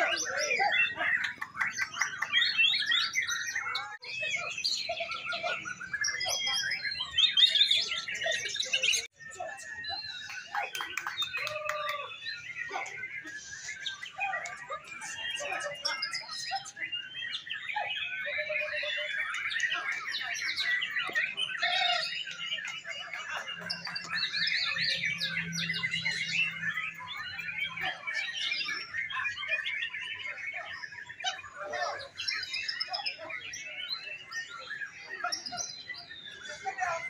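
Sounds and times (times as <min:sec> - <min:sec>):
chorus of songbirds singing: 0:00.0 - 0:37.0.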